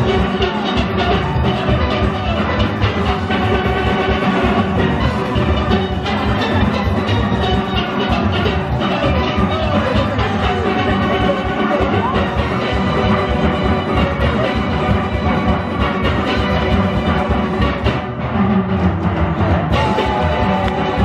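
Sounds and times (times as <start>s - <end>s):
percussion driving beat: 0.0s - 21.0s.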